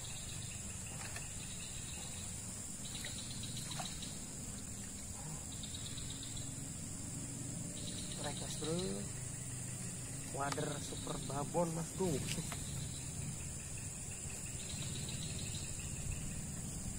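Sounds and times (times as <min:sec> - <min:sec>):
chirping insect trills: 0:00.0 - 0:16.9
high insect drone: 0:00.0 - 0:16.9
low steady rumble: 0:00.0 - 0:16.9.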